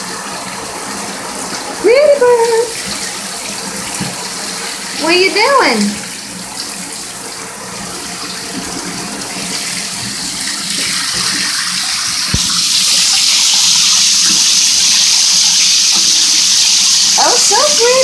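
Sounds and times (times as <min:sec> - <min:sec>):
shower spray running into bathtub: 0:00.0 - 0:18.0.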